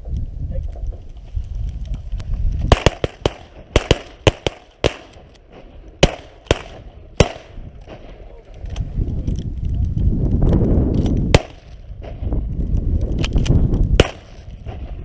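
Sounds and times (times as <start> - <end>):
sharp cracks: 0.1 - 15.0.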